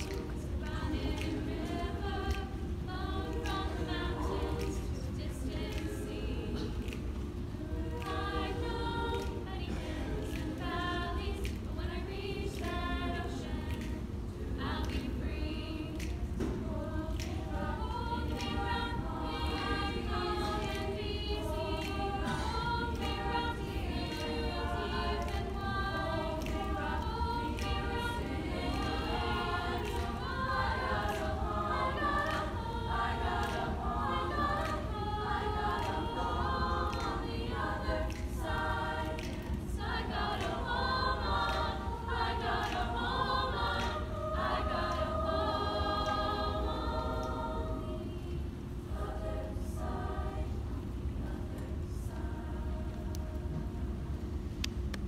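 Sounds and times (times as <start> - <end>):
women's choir singing in harmony: 0.0 - 55.0.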